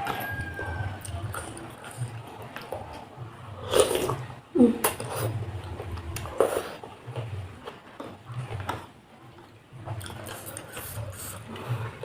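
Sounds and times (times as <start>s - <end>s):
chewing soft food: 0.0s - 12.0s.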